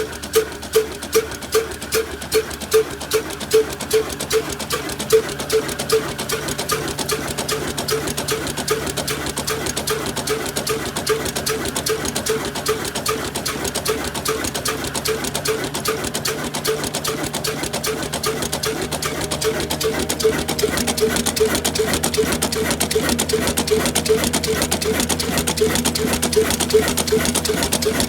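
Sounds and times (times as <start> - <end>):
diesel engine knocking: 0.0 - 28.0.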